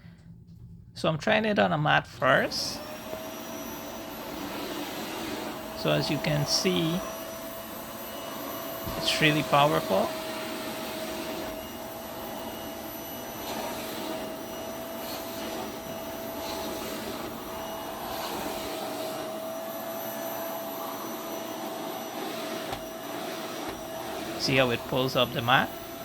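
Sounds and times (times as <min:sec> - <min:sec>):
vacuum cleaner running: 0:02.2 - 0:26.0
vacuum floor tool on mat: 0:02.2 - 0:26.0.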